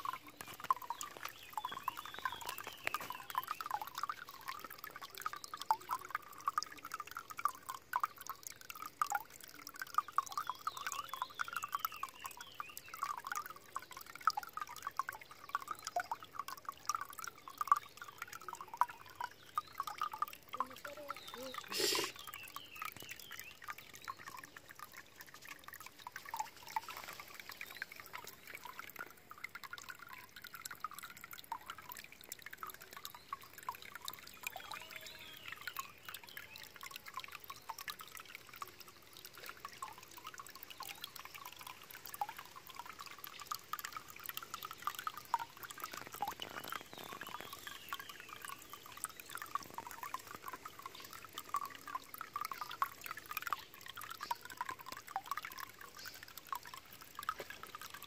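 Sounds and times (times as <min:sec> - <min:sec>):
fountain water trickling and splashing: 0:00.0 - 0:58.0.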